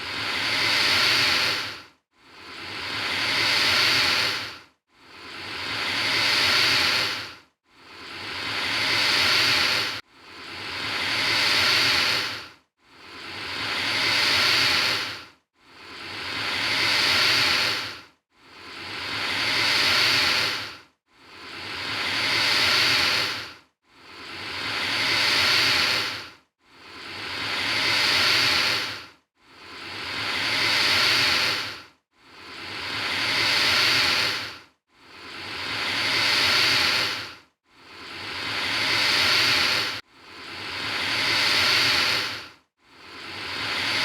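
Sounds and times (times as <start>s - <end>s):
alligator hissing: 0.1s - 1.7s, 2.4s - 4.5s, 5.2s - 7.3s, 8.0s - 10.0s, 10.6s - 12.4s, 13.2s - 15.2s, 15.8s - 18.0s, 18.6s - 23.5s, 24.1s - 26.2s, 26.9s - 29.0s, 29.7s - 31.8s, 32.4s - 34.6s, 35.2s - 42.5s, 43.1s - 44.0s.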